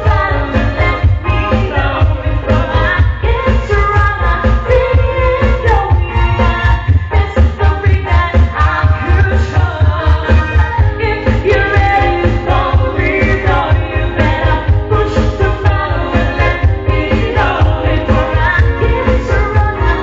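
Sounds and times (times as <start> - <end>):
loud pop song with heavy beat: 0.0 - 20.0.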